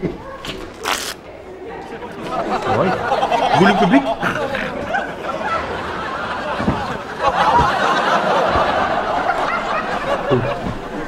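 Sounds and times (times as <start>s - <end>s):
people laughing and chattering: 0.0s - 11.0s.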